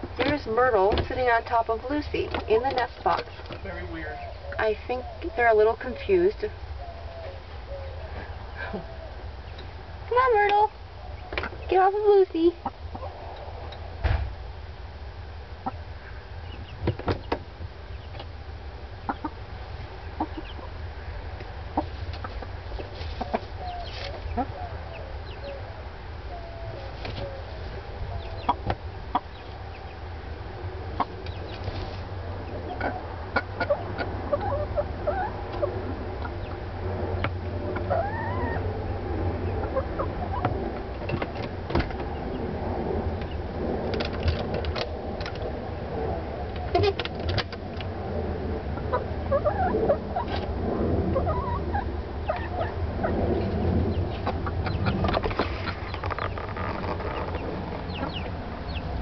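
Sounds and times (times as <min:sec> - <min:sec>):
hens clucking: 0:00.0 - 0:14.0, 0:15.6 - 0:17.3, 0:19.0 - 0:38.8, 0:39.4 - 0:41.3, 0:48.7 - 0:59.0.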